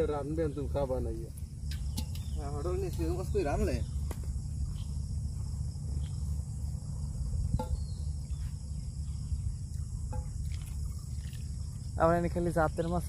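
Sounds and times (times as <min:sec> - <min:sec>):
crickets chirring: 0:00.0 - 0:13.0
low rumble: 0:00.5 - 0:11.9.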